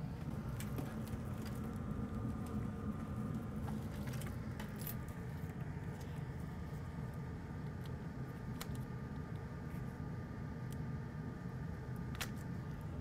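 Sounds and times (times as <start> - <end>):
faint high whine: 0.0 - 13.0
workbench equipment humming: 0.0 - 13.0.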